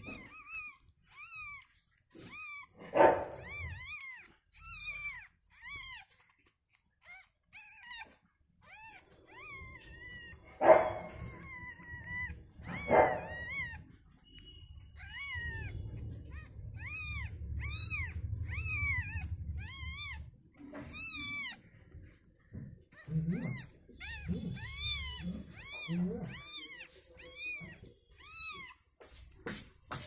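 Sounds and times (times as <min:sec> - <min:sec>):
kitten mewing: 0:00.0 - 0:06.1, 0:07.0 - 0:13.8, 0:15.0 - 0:21.7, 0:22.8 - 0:28.8.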